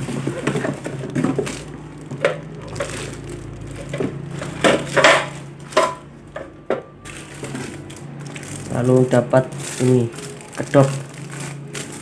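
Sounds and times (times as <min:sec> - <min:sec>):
plastic bag crinkling: 0:00.0 - 0:06.3, 0:07.0 - 0:12.0.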